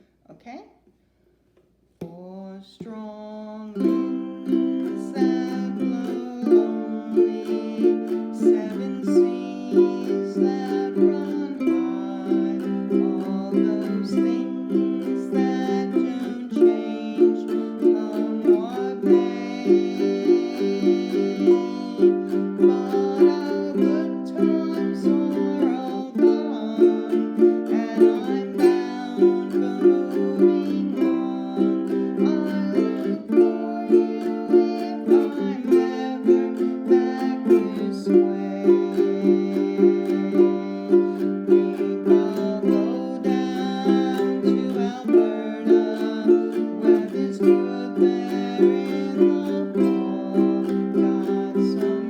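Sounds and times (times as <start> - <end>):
ukulele strumming: 2.8 - 52.0.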